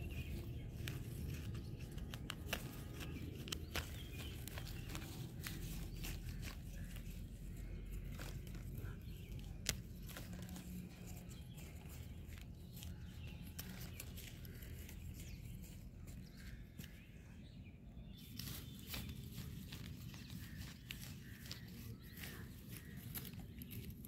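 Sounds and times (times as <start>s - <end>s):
weeding tool scraping dry soil: 0.0s - 17.1s, 18.1s - 24.0s.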